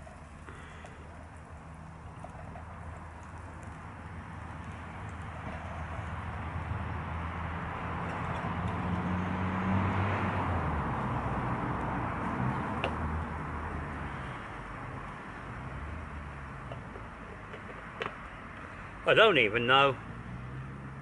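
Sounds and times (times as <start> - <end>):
vehicle engine passing: 1.6 - 21.0.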